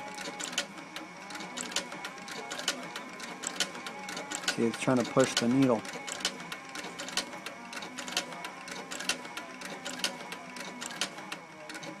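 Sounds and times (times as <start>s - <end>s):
faint motor whine: 0.0s - 12.0s
sewing machine needle clicks: 1.3s - 12.0s.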